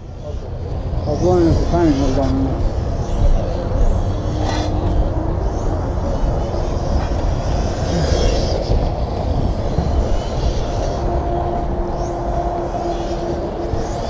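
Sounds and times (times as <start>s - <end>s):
heavy low rumble: 0.0s - 14.0s
rc car motor whine: 0.0s - 14.0s.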